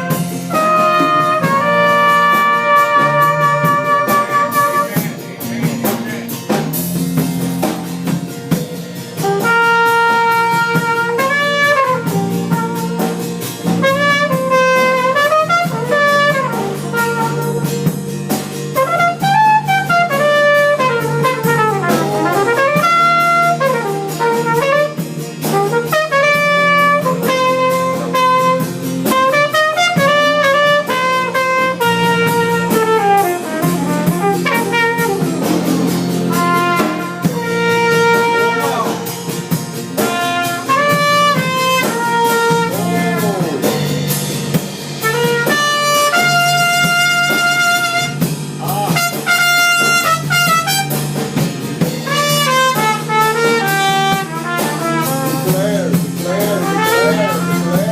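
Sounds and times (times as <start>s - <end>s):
drums: 0.0s - 57.9s
trumpet playing jazzy melody: 0.0s - 57.9s.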